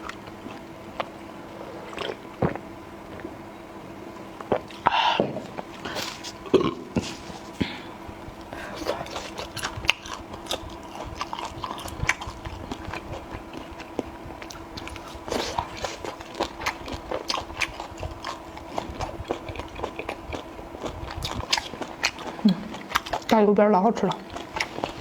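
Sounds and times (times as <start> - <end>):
person chewing food: 0.0 - 3.4, 4.4 - 23.4, 24.0 - 25.0
faint steady hum: 0.0 - 25.0.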